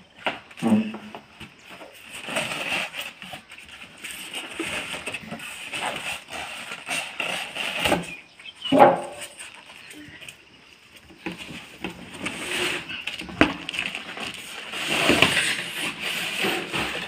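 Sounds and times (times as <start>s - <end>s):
plastic and foam packing rustling: 0.0s - 17.0s.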